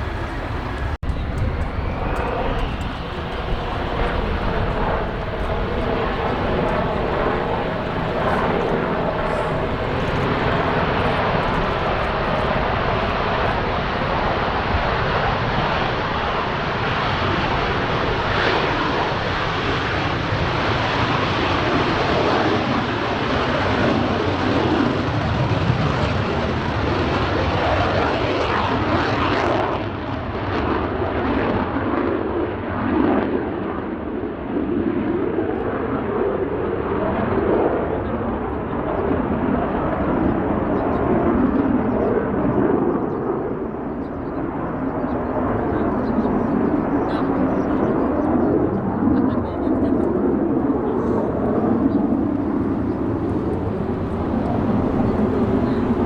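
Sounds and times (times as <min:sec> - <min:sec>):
jet engine whine: 0:00.0 - 0:32.7, 0:33.5 - 0:56.0.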